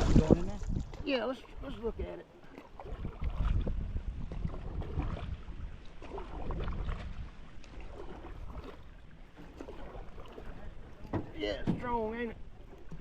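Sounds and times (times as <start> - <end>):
paddle strokes splashing: 0.0 - 13.0
rumble of moving water: 0.0 - 13.0
wind: 0.0 - 13.0.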